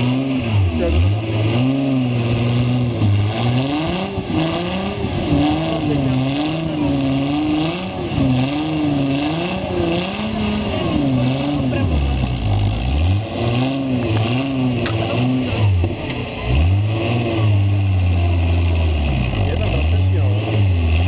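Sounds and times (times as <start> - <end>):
buggy engine revving: 0.0 - 21.0.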